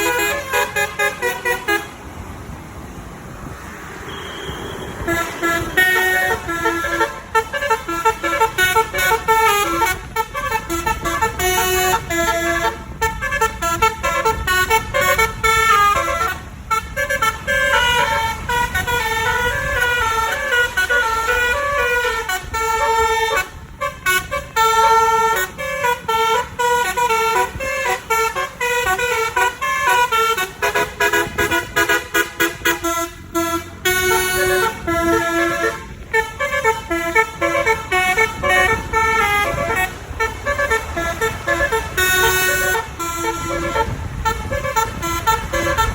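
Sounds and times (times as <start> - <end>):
musical bus horn tune: 0.0 - 2.1, 4.1 - 45.9.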